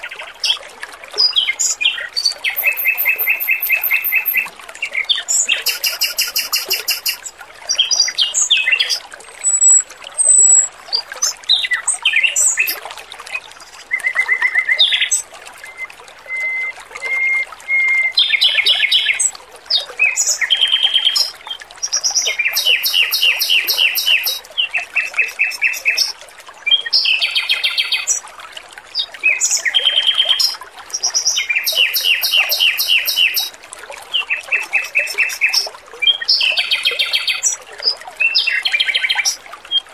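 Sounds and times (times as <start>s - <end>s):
faint trickle of running water: 0.0s - 39.9s.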